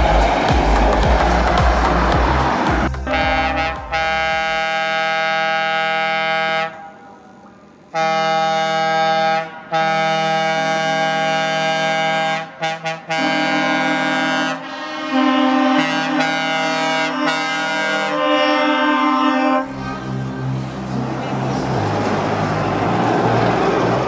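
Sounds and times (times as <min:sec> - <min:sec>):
truck air horns blowing: 0:00.0 - 0:07.1, 0:07.9 - 0:20.4
truck engine: 0:00.0 - 0:24.0.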